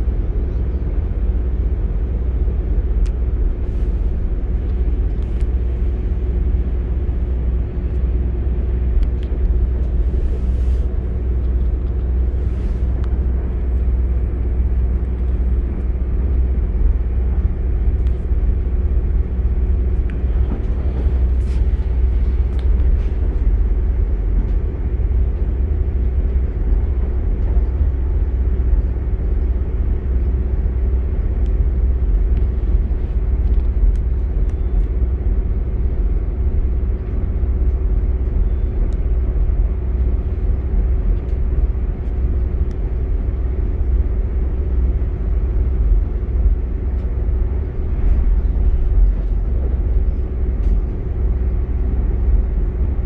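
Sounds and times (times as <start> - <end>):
constant hum: 0.0 - 53.0
train running at speed: 0.0 - 53.0.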